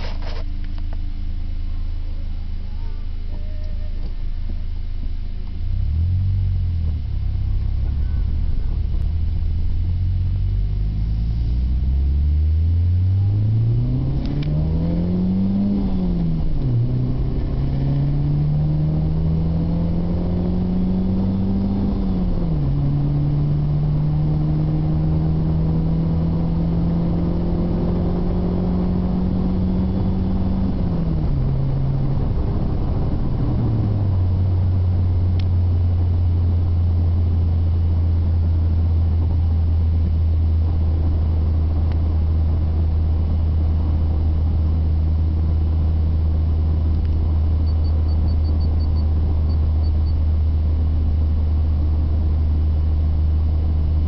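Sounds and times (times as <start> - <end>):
car engine accelerating: 3.9 - 54.0.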